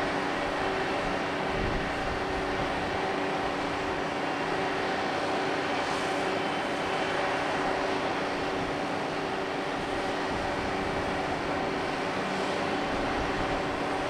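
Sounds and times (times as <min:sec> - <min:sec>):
ship machinery drone: 0:00.0 - 0:14.0.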